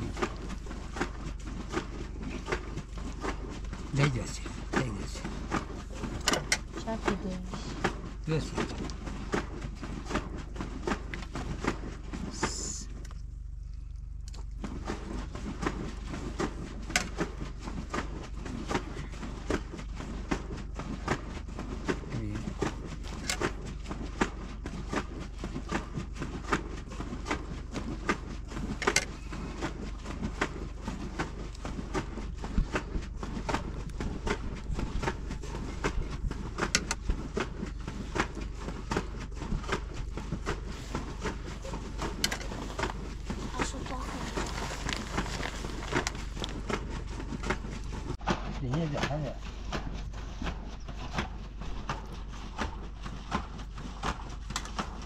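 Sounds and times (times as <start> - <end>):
low background rumble: 0.0 - 55.0.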